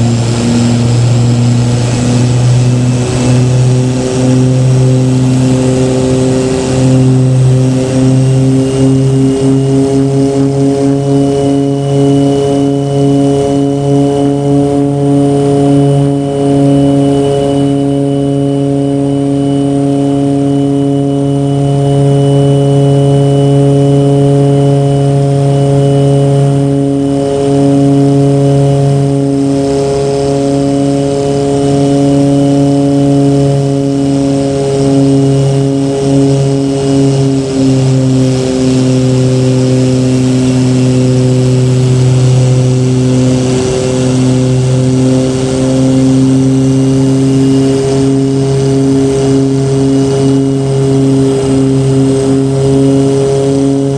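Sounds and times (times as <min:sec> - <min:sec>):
propeller aircraft engine droning: 0:00.0 - 0:53.9.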